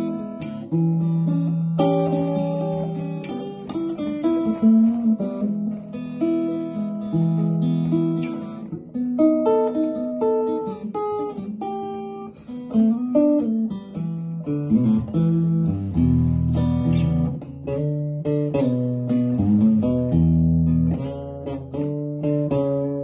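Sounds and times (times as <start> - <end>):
acoustic guitar playing: 0.0 - 23.0.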